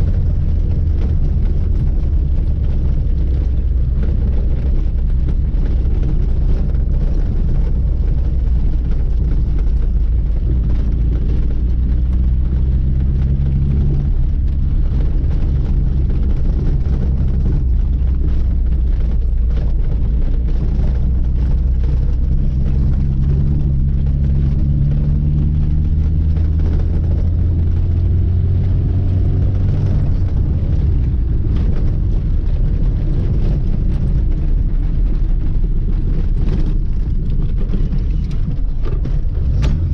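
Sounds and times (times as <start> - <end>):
car engine running: 0.0 - 39.9
road noise rumble: 0.0 - 39.9.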